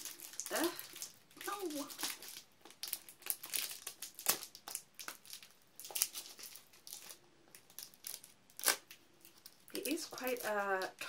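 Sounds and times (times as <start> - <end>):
plastic wrapping crinkling and tearing: 0.0 - 11.0.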